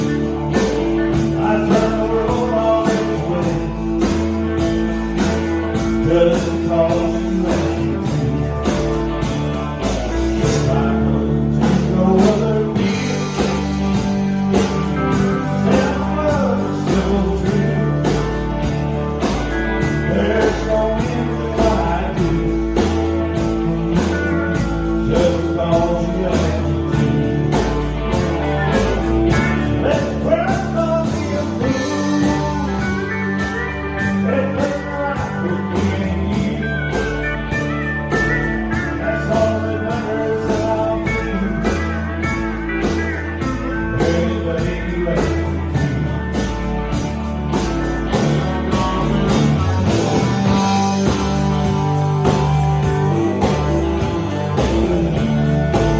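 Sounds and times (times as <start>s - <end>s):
country-rock band music: 0.0s - 55.9s.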